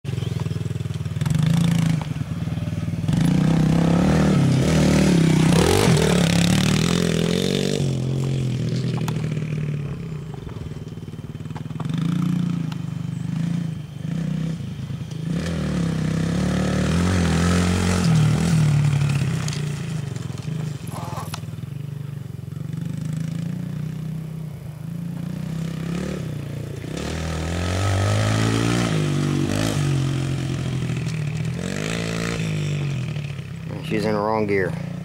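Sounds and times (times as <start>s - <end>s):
dirt bike engine revving: 0.1s - 21.4s, 22.7s - 35.0s.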